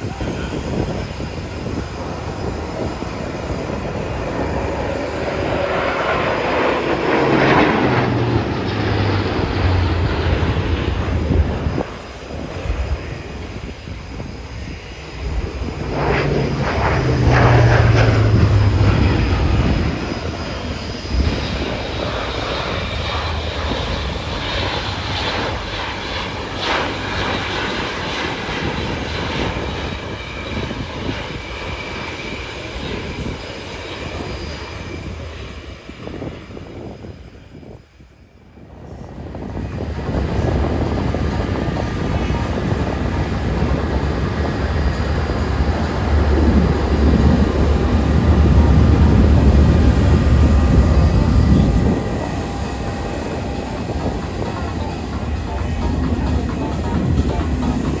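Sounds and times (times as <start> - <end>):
plane passing low overhead: 0.0 - 58.0.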